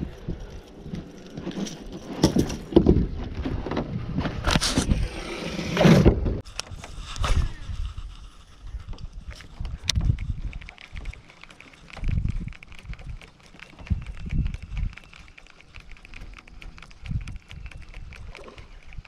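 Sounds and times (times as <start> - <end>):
gear knocking and scraping on boat: 0.0 - 6.1, 8.8 - 19.0.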